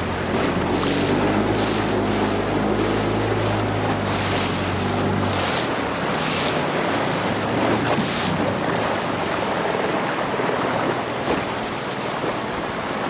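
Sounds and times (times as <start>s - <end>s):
water splashing against boat hull: 0.0s - 13.0s
wind buffeting microphone: 0.0s - 13.0s.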